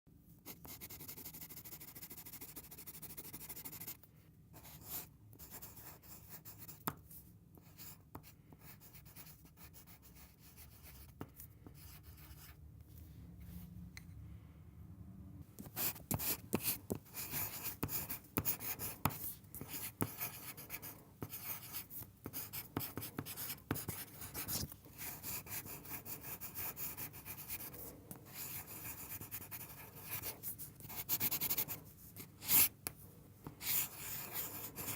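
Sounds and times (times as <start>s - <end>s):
pencil scratching on paper: 0.5s - 4.0s, 4.6s - 6.9s, 7.6s - 12.6s, 15.6s - 34.9s.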